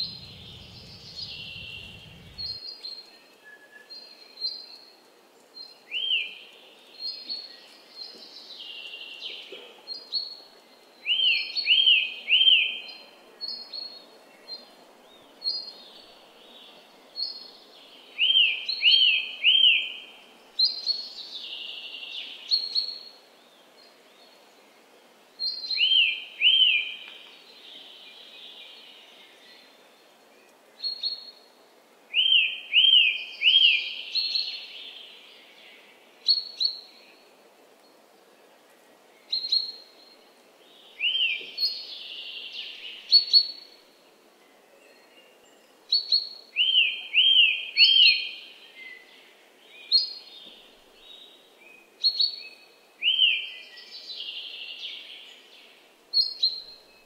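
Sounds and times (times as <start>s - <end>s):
songbird singing: 0.0s - 24.8s, 25.4s - 57.0s
faint wetland background: 0.0s - 57.0s.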